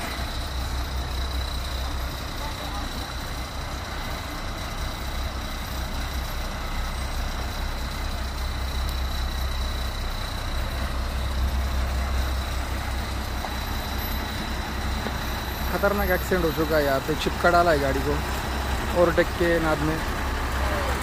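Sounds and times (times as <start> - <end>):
heavy truck engine rumble: 0.0 - 21.0.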